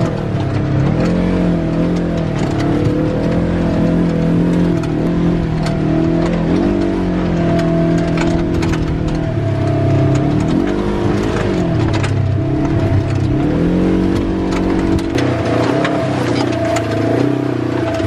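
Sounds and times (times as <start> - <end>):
clicks and knocks: 0.0 - 18.0
dune buggy engine running: 0.0 - 18.0.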